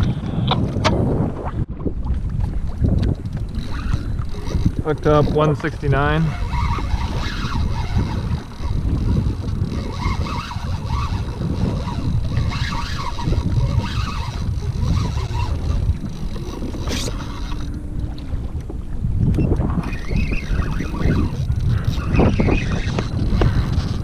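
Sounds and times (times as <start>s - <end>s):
water sloshing against kayak hull: 0.0s - 24.0s
wind buffeting microphone: 0.0s - 24.0s.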